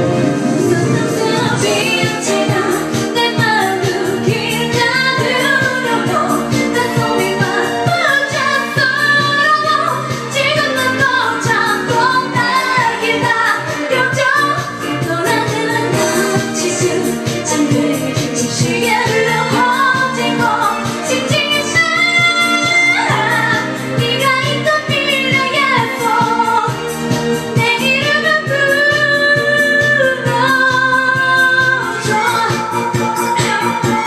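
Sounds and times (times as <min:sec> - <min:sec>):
pop backing track with beat: 0:00.0 - 0:34.0
woman singing pop song: 0:00.0 - 0:34.0.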